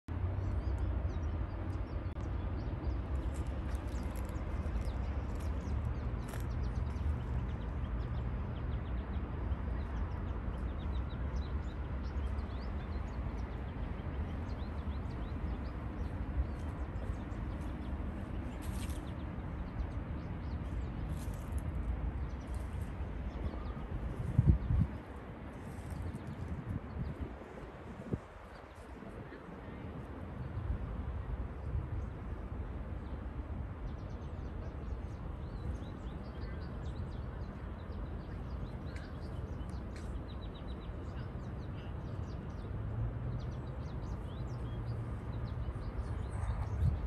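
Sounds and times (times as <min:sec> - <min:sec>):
songbirds chirping: 0:00.1 - 0:47.0.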